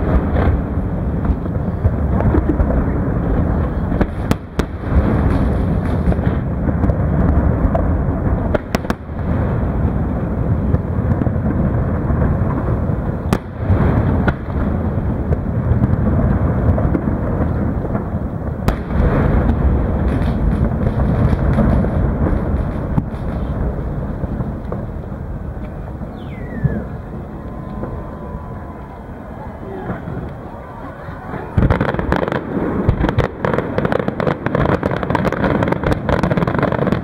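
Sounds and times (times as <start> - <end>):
sharp firework bangs: 0.0 - 28.8, 31.2 - 37.0
rumble of fireworks bursting: 0.0 - 37.0.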